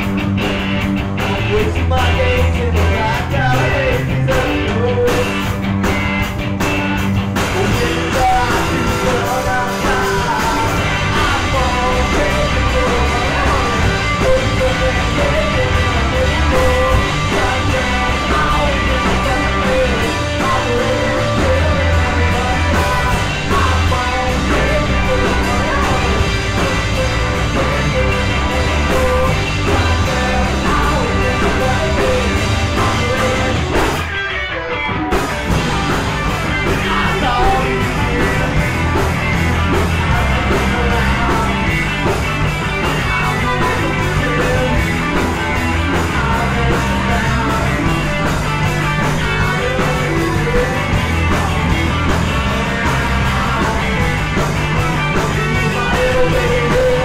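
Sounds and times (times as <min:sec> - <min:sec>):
live rock band playing: 0:00.0 - 0:57.0
man singing lead vocals: 0:01.1 - 0:34.2, 0:35.5 - 0:57.0.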